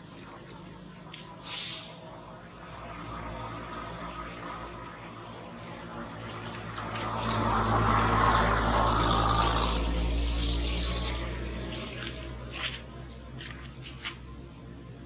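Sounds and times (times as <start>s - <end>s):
motor vehicle passing by: 0.0s - 14.4s.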